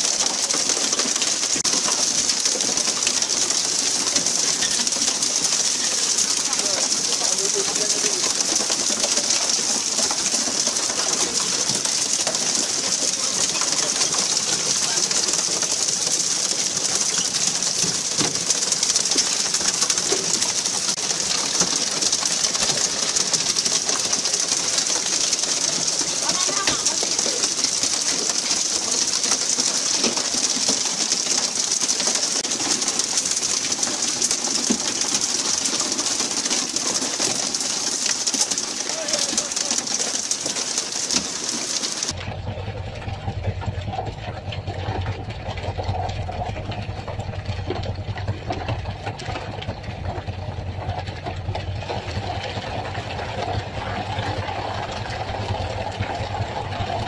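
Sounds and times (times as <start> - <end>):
rushing water and spray: 0.0 - 42.2, 45.5 - 57.0.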